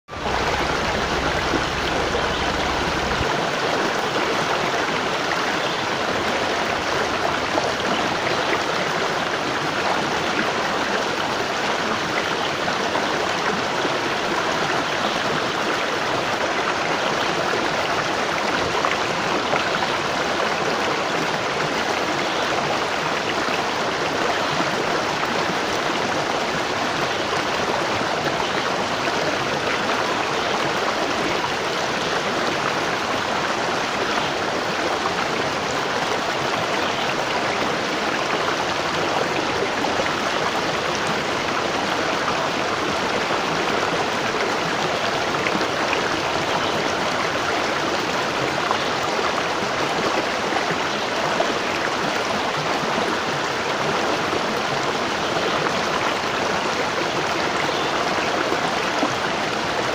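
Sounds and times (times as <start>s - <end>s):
waterfall rushing: 0.1s - 59.9s.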